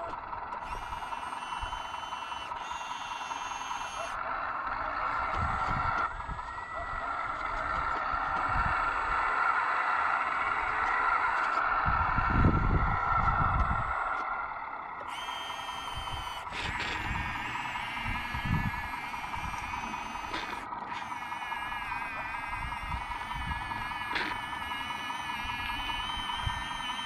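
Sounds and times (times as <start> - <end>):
small electric motors whining: 0.0 - 27.0.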